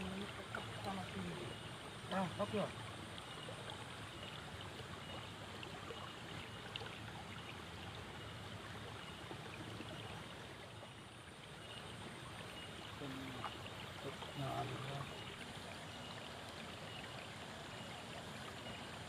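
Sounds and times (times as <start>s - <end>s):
water trickling in a ditch: 0.0s - 19.0s.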